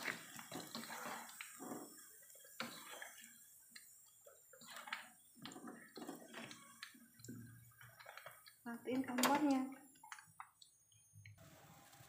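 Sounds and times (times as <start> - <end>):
hot oil sizzling: 0.0 - 10.4.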